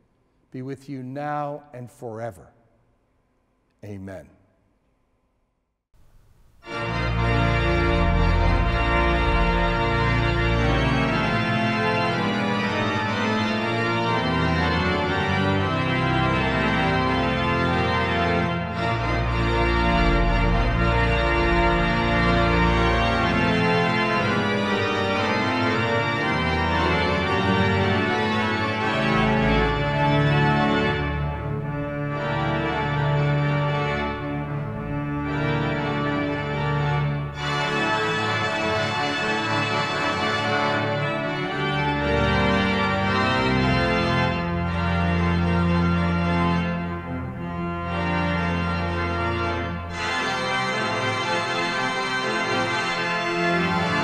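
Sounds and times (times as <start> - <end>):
church organ chords: 0.5 - 2.6, 6.6 - 54.0.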